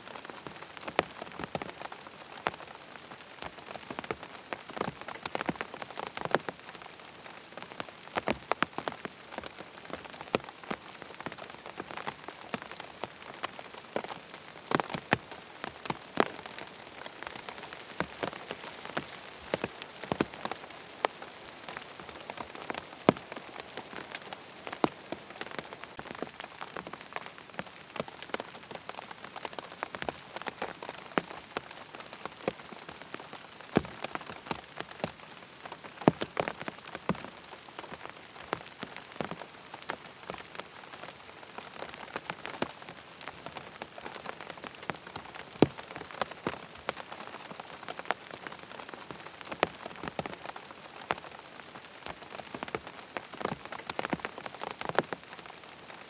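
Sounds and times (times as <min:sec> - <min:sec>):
steady rain hiss: 0:00.0 - 0:56.0
raindrop ticks: 0:00.2 - 0:07.0, 0:07.6 - 0:56.0.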